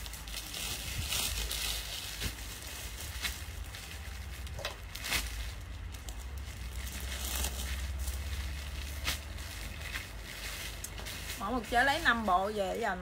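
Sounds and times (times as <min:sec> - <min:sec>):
cloth rustling: 0:00.0 - 0:12.8.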